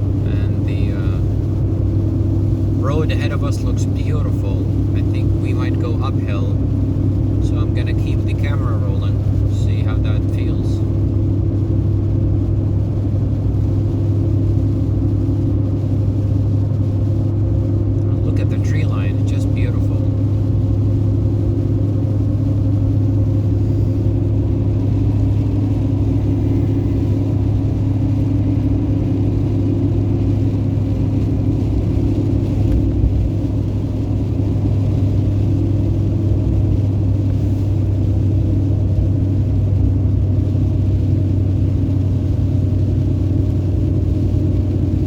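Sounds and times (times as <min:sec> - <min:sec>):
pickup truck engine drone: 0:00.0 - 0:45.0.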